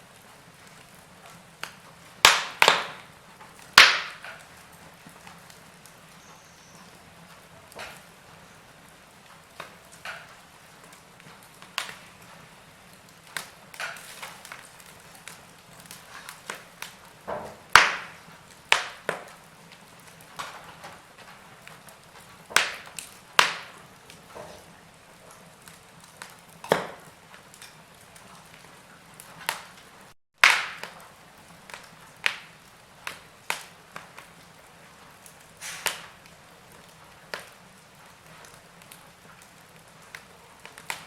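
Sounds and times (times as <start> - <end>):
faint steady hiss: 0.0 - 41.0
wood fire crackling and popping: 0.0 - 41.0.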